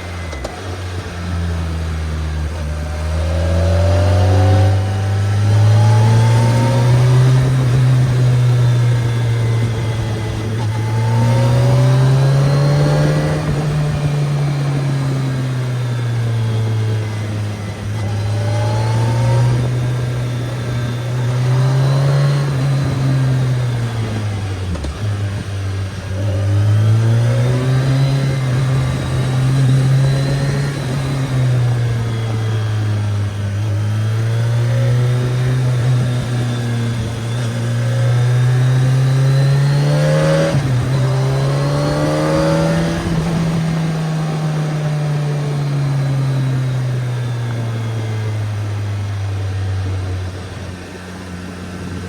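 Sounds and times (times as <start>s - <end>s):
motorcycle engine accelerating: 0.0s - 52.0s
road and wind noise: 0.0s - 52.0s.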